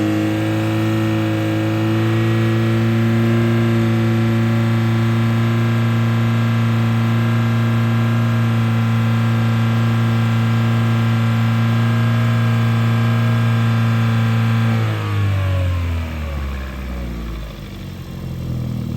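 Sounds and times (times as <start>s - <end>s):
car engine at raised revs: 0.0s - 18.9s.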